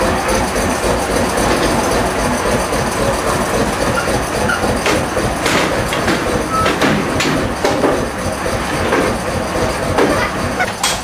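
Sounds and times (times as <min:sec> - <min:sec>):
train rumbling on track: 0:00.0 - 0:11.0
wheel-on-rail clicks: 0:00.0 - 0:11.0.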